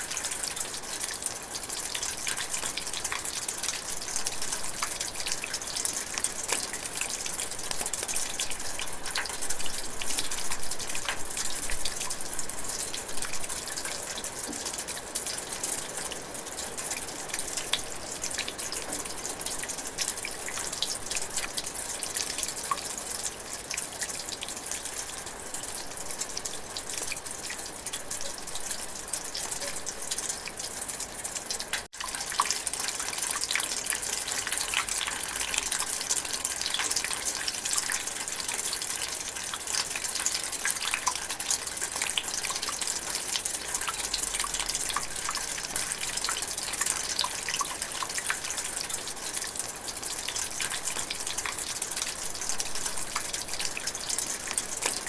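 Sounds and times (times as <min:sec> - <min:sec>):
drizzling rain pattering: 0:00.0 - 0:55.0.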